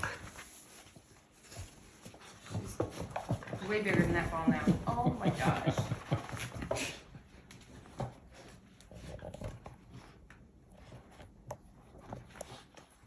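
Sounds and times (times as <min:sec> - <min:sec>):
puppy playing with a ball: 0:00.0 - 0:13.0.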